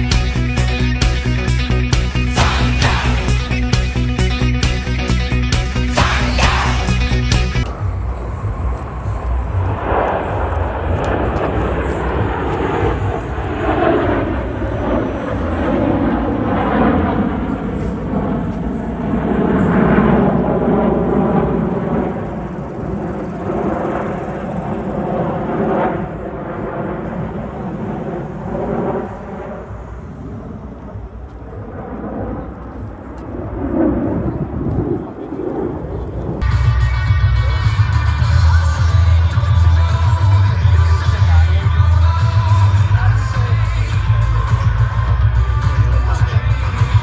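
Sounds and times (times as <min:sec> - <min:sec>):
aircraft engines droning: 0:00.0 - 0:47.0.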